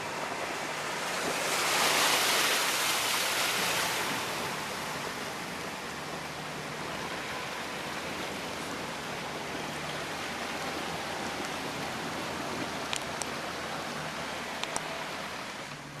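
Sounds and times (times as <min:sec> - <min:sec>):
heavy rain: 0:00.0 - 0:16.0
running floodwater: 0:00.0 - 0:16.0.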